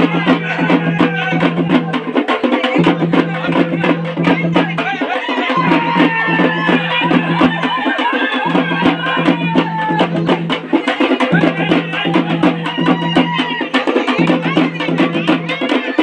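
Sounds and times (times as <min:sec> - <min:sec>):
barrel drums beaten fast: 0:00.0 - 0:16.0.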